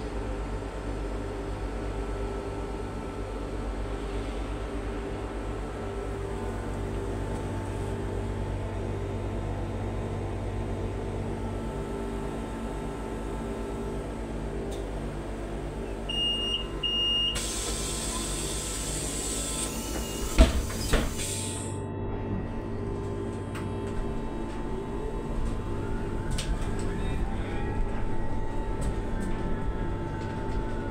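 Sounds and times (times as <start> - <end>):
bus cabin hum: 0.1 - 30.9.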